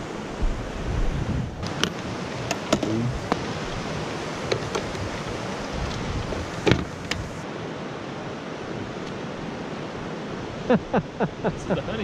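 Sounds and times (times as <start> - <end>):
rushing mountain creek: 0.0 - 12.0.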